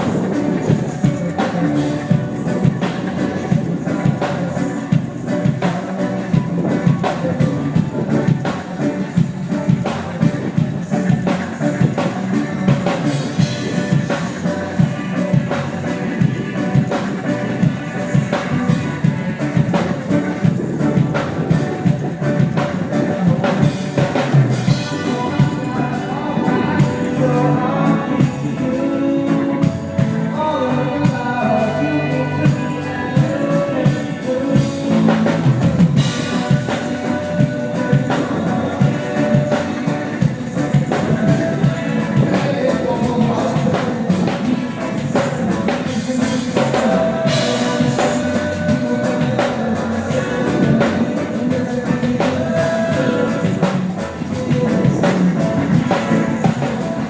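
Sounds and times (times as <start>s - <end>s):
live reggae-rock band playing: 0.0s - 57.0s
person singing: 0.0s - 57.0s.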